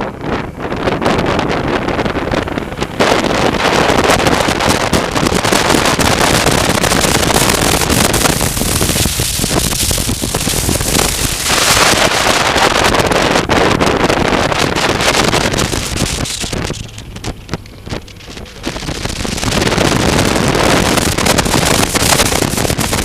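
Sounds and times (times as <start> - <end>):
motorcycle running: 0.0 - 23.0
road noise: 0.0 - 23.0
wind buffeting microphone: 0.0 - 23.0.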